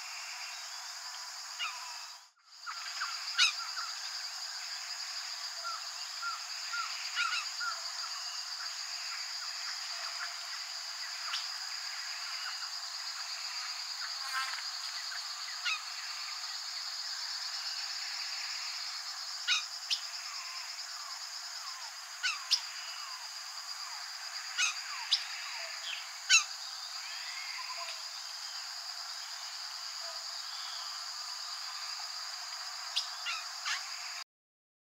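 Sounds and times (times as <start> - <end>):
high-pitched hiss: 0.0 - 34.2.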